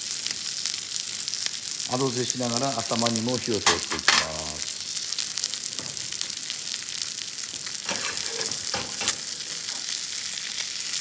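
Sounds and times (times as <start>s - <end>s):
fish sizzling in frying pan: 0.0s - 11.0s.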